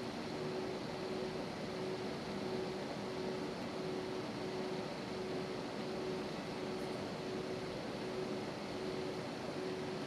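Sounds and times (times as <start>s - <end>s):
airplane cabin engine noise: 0.0s - 10.0s
faint steady whine: 0.0s - 10.0s.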